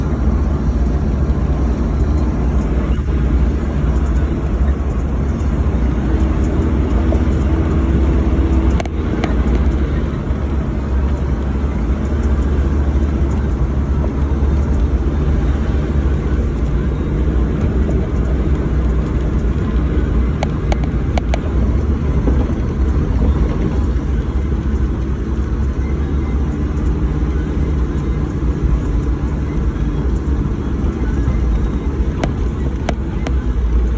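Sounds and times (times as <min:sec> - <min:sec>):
vehicle engine and road rumble: 0:00.0 - 0:33.9.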